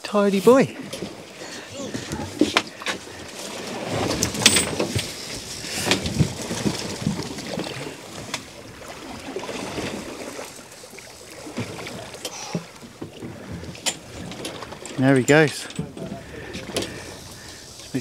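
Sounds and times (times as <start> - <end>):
water sloshing against boat: 0.4 - 18.0.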